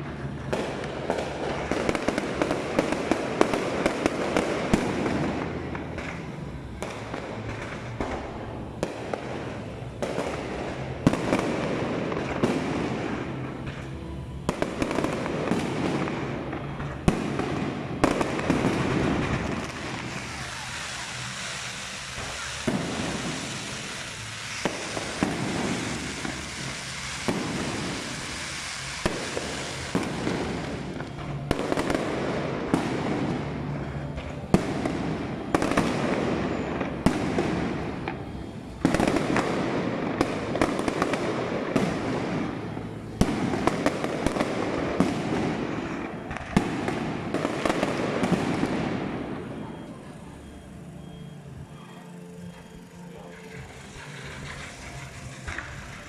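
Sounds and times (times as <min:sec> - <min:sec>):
fireworks bangs: 0:00.0 - 0:50.8, 0:51.5 - 0:56.0
fireworks crackling: 0:00.0 - 0:56.0.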